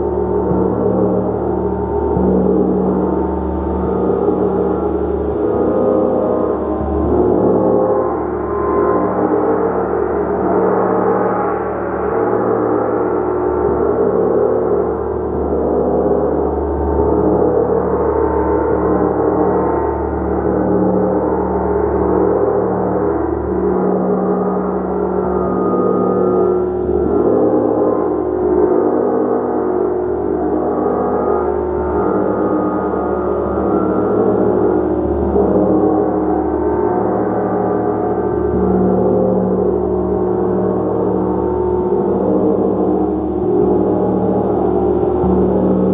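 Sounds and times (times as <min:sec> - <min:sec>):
gong wash of overlapping tones: 0:00.0 - 0:45.9.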